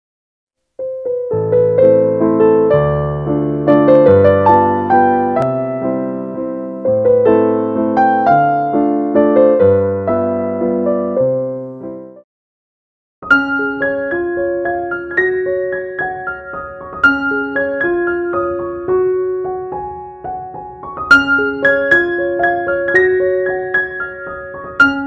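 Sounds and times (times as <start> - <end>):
piano music: 0.8 - 12.2, 13.2 - 25.0.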